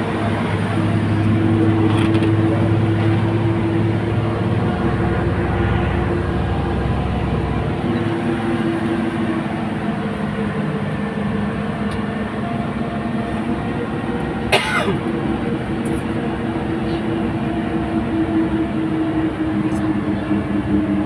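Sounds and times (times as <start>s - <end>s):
bus engine and road noise: 0.0s - 21.0s.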